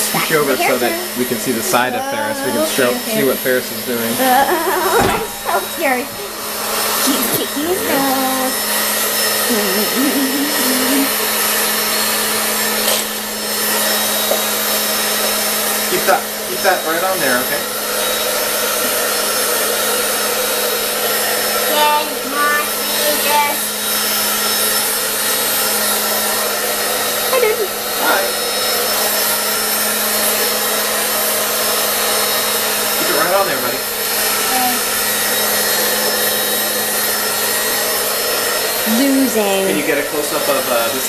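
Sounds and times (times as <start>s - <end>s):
hair dryer blowing air: 0.0s - 41.0s.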